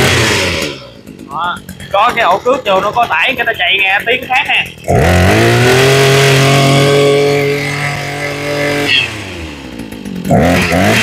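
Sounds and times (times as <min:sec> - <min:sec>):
brush cutter engine revving: 0:00.0 - 0:11.0.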